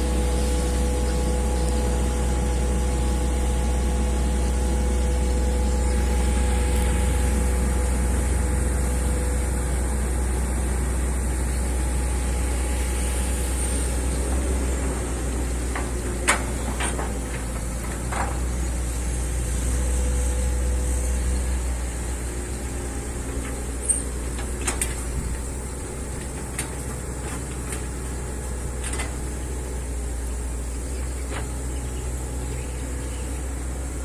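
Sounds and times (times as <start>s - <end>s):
excavator diesel engine rumbling: 0.0s - 34.0s.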